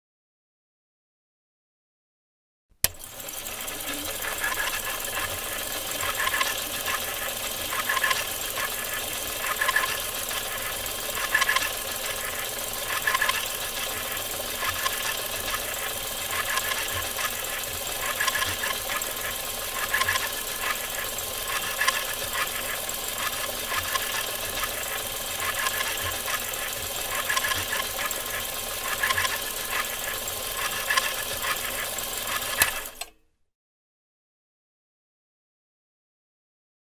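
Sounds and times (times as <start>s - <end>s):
film projector whirring: 2.8s - 33.2s.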